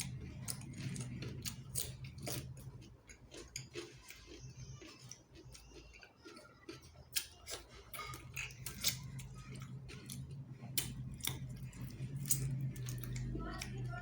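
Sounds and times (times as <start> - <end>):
close chewing with clicks and smacks: 0.0 - 14.0.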